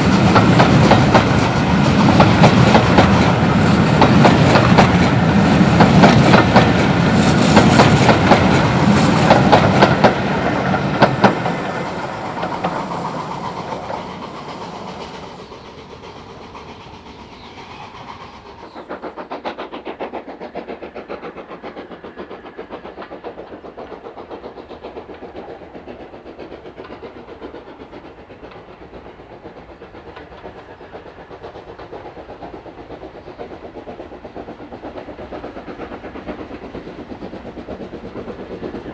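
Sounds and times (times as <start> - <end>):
steady rhythmic train sound: 0.0 - 38.9
train passing: 0.0 - 38.9.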